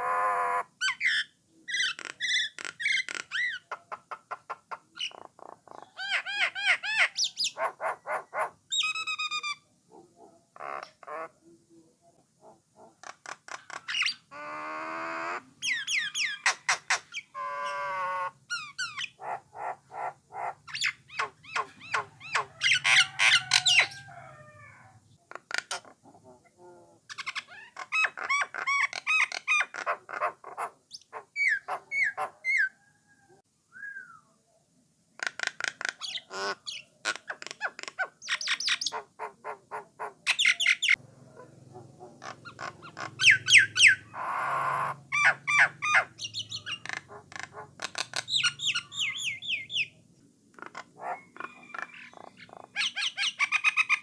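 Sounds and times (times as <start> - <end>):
myna bird singing: 0.0 - 34.4, 35.2 - 54.0.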